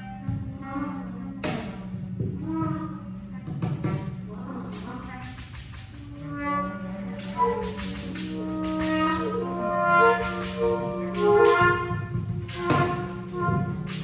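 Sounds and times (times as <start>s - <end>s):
reed instruments playing long notes: 0.0s - 14.0s.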